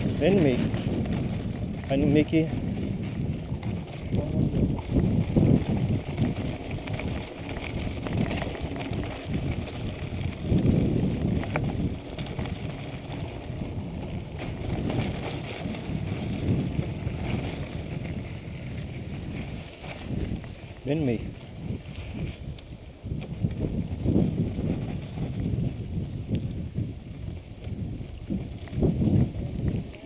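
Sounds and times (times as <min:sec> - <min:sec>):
tyres rumbling over dirt trail: 0:00.0 - 0:30.0
wind rushing over microphone: 0:00.0 - 0:30.0.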